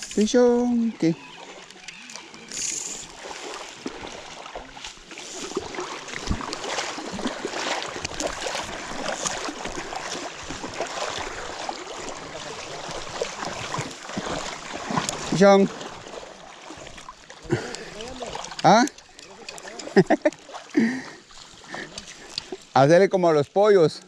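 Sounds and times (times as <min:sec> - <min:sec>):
small splashes and knocks: 0:00.0 - 0:22.8
river water sloshing: 0:00.0 - 0:23.3.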